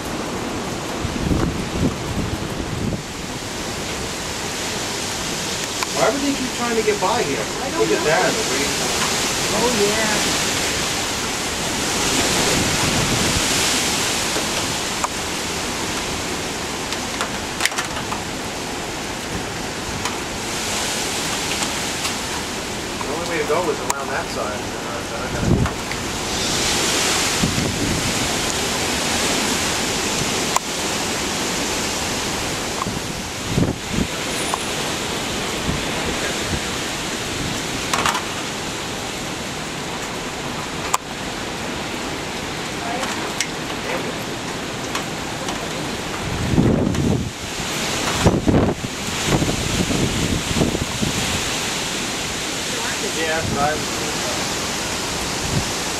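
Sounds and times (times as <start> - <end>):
hurricane wind: 0.0 - 55.9
surf: 0.0 - 55.9.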